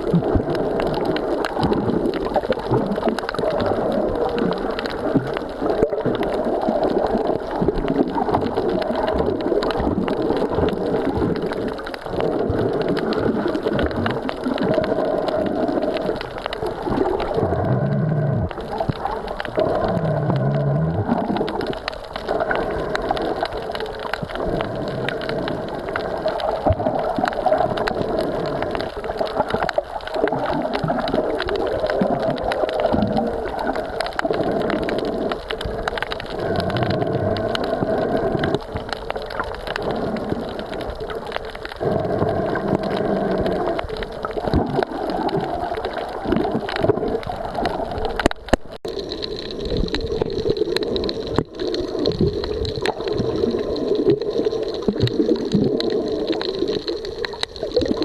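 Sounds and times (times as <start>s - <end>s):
sea water washing over stones: 0.0s - 58.0s.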